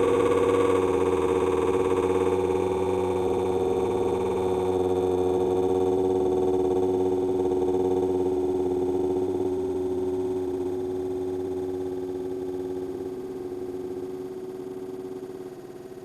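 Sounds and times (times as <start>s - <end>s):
slowed cat yawn drone: 0.0s - 14.1s.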